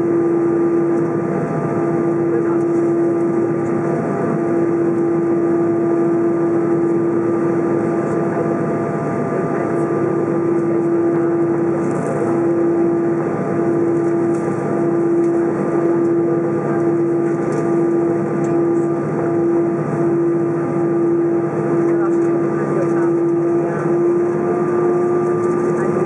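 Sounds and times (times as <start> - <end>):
aircraft cabin hum: 0.0 - 26.0.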